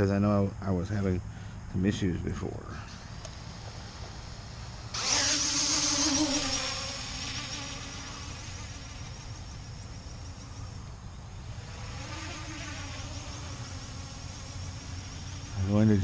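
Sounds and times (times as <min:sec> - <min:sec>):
quadcopter motors buzzing: 0:02.5 - 0:16.0.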